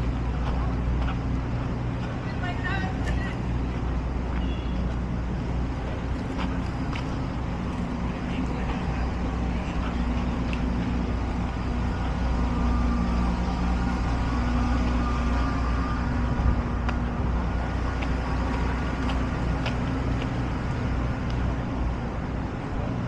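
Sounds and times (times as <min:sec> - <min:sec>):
engine hum: 0:00.0 - 0:23.0
traffic rumble: 0:00.0 - 0:23.0.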